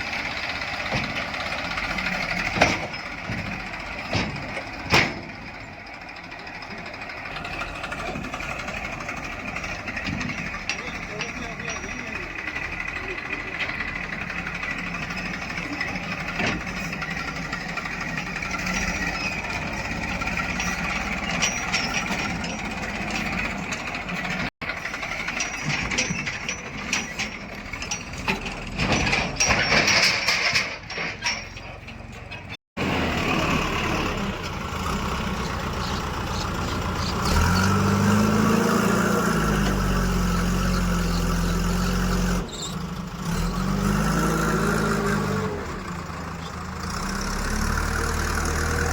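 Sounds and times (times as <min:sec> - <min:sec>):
engine labouring under load: 0:00.0 - 0:48.9
heavy diesel machinery running: 0:00.0 - 0:48.9.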